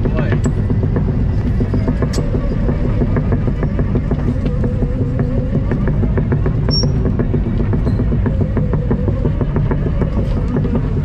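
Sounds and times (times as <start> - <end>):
diesel engine rumble: 0.0 - 11.0
engine whine: 0.0 - 11.0.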